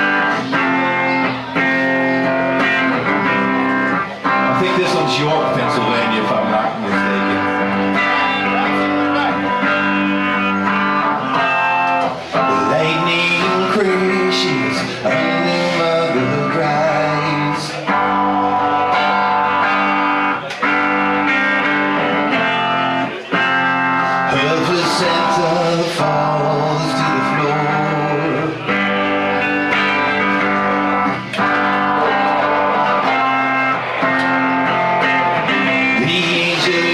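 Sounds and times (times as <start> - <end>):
rock band guitar chords: 0.0 - 36.9.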